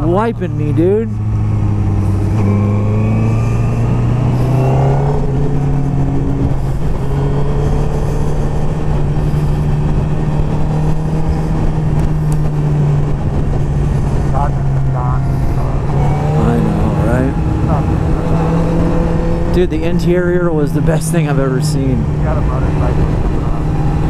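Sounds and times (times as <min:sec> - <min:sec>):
second engine rising in pitch: 0:00.0 - 0:24.0
vehicle engine running: 0:00.0 - 0:24.0.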